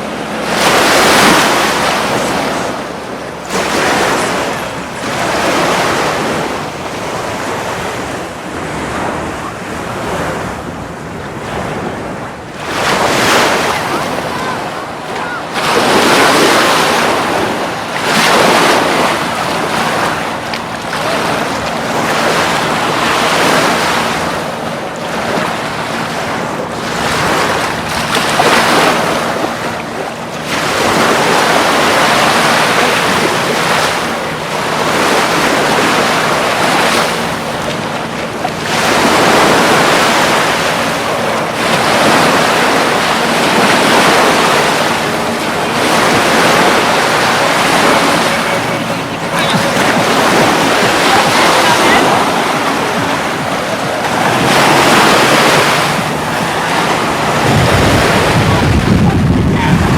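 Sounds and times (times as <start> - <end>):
surf breaking on beach: 0.0 - 59.9
wind on microphone: 0.0 - 59.9.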